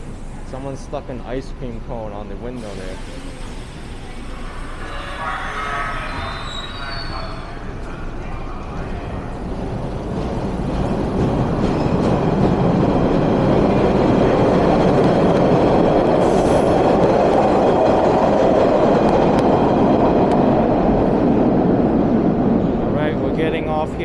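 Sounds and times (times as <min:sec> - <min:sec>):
subway train rumbling on rails: 0:00.0 - 0:24.0.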